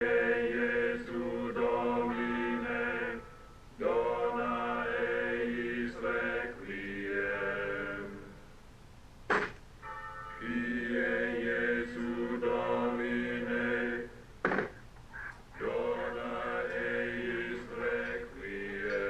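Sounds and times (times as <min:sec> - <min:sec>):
choral chanting with sustained chords: 0:00.0 - 0:08.6, 0:10.2 - 0:14.4, 0:15.6 - 0:19.0.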